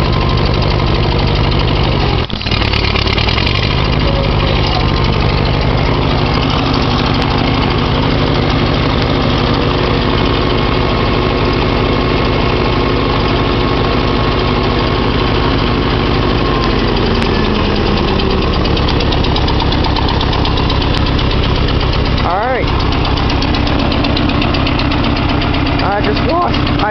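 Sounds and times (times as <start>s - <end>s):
tractor engine idling: 0.0s - 26.9s.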